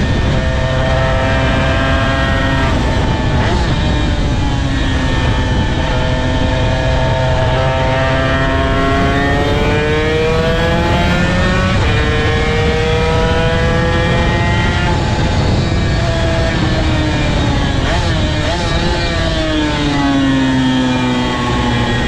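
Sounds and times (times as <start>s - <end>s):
motorcycle engine accelerating: 0.0s - 22.0s
steady rush of noise: 0.0s - 22.0s.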